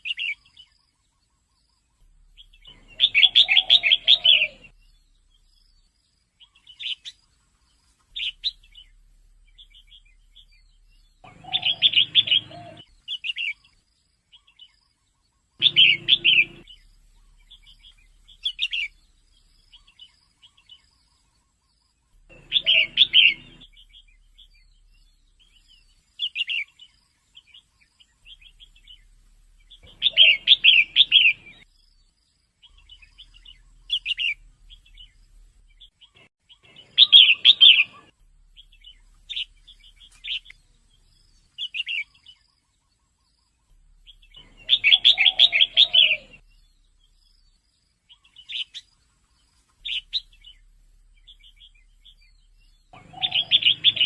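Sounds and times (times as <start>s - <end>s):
bird chirping calls: 0.0s - 54.0s.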